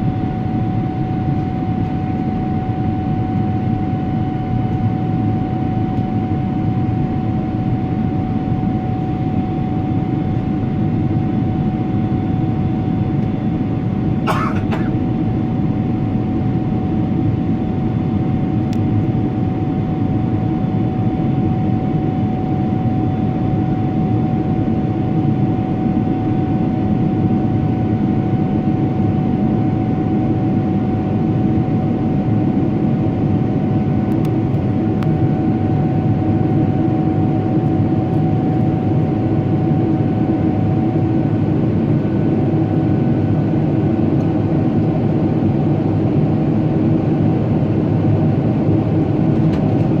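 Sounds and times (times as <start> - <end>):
airplane cabin engine rumble: 0.0 - 18.0, 21.5 - 50.0.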